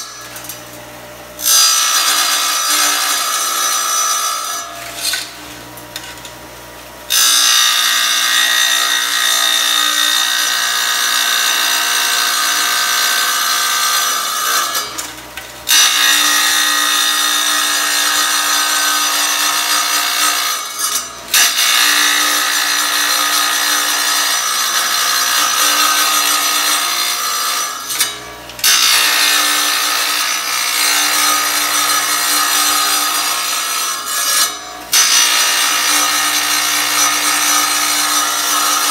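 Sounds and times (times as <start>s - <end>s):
tile saw grinding through tile: 1.4s - 6.3s, 7.1s - 38.9s.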